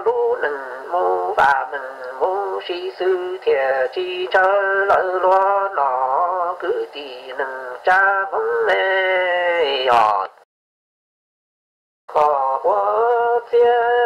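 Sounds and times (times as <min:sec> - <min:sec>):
person singing slow song: 0:00.0 - 0:10.4, 0:12.1 - 0:14.0.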